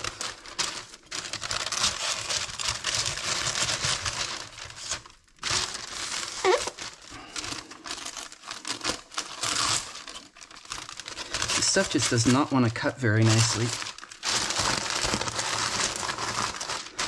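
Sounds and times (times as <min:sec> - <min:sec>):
crinkly sheet crackling: 0:00.0 - 0:17.0.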